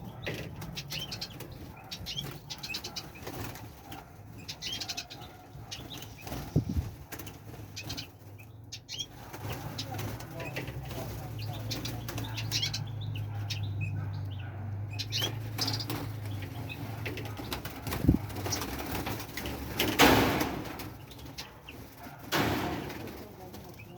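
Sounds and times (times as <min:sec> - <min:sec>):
birds chirping: 0:00.0 - 0:23.9
wings flapping: 0:00.5 - 0:08.4, 0:09.0 - 0:12.7, 0:15.1 - 0:23.9.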